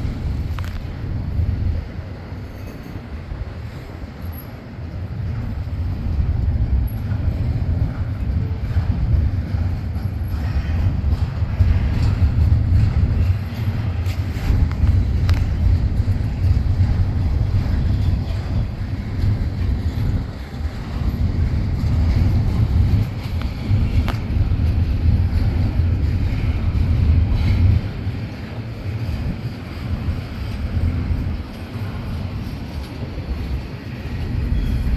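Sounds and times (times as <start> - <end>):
freight train rumbling on rails: 0.0 - 34.9
train clanks: 0.0 - 34.9.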